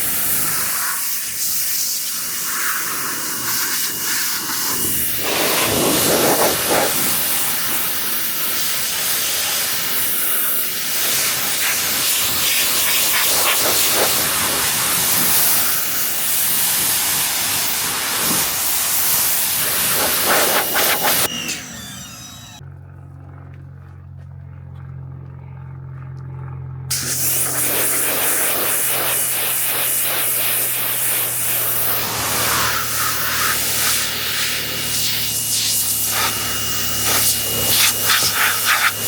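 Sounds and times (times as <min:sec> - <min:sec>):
pressure washer spraying water: 0:00.0 - 0:22.6, 0:26.9 - 0:39.0.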